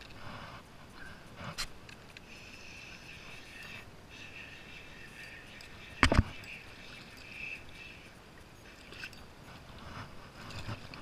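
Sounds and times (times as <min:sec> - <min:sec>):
faint hiss of water: 0:00.0 - 0:11.0.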